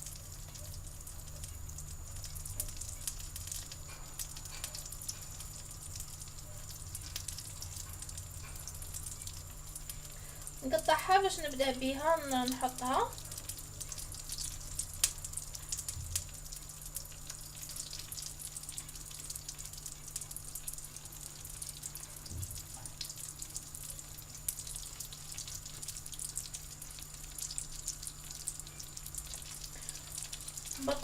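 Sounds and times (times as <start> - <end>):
fat sizzling in a pot: 0.0 - 31.0.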